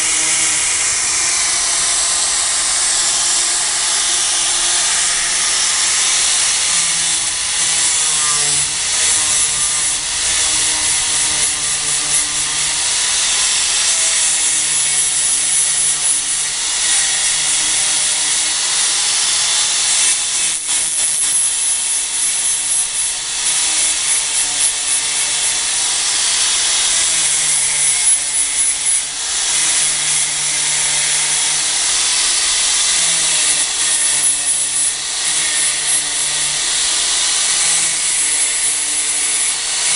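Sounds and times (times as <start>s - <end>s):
angle grinder grinding: 0.0s - 39.9s.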